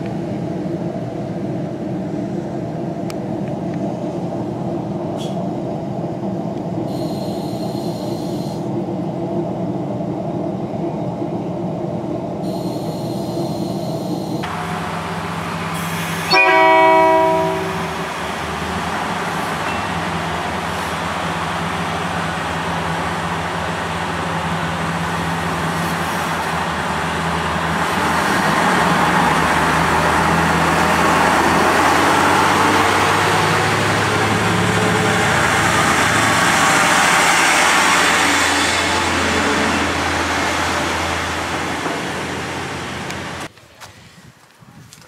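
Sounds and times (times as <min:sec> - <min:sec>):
train wheel noise: 0:00.0 - 0:43.5
diesel railcar engine: 0:00.0 - 0:43.6.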